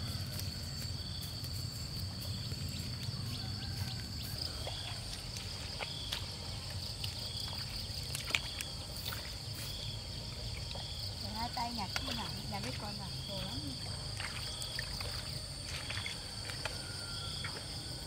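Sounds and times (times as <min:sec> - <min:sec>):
insects buzzing drone: 0:00.0 - 0:18.0.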